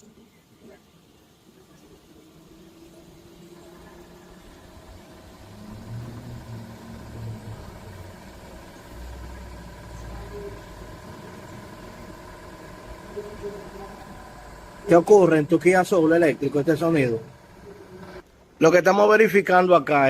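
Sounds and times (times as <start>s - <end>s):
compressor humming with several tones: 0.0s - 20.0s.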